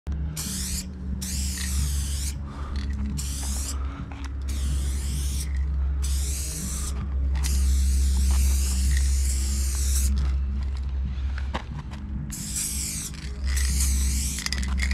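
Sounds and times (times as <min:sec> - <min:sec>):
steady low rumble: 0:00.1 - 0:14.9
spray paint can hissing: 0:00.3 - 0:03.8, 0:04.4 - 0:10.3, 0:12.3 - 0:14.9.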